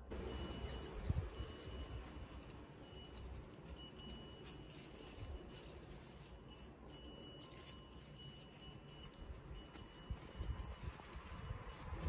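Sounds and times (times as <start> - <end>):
faint high chime tones: 0.0 - 12.0.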